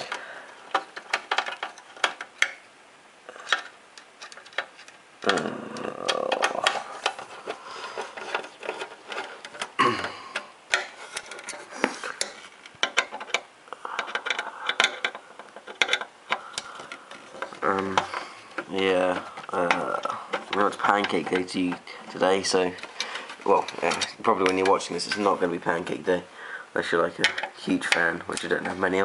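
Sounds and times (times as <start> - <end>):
scraping of parts being handled: 0.0 - 2.7, 3.3 - 29.0.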